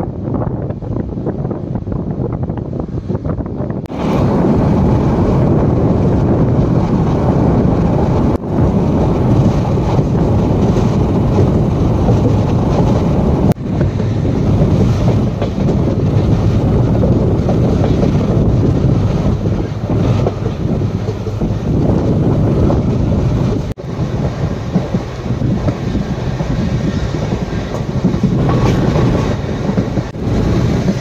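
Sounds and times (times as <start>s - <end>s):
train coaches rumbling on track: 0.0s - 31.0s
wind buffeting microphone: 0.0s - 31.0s.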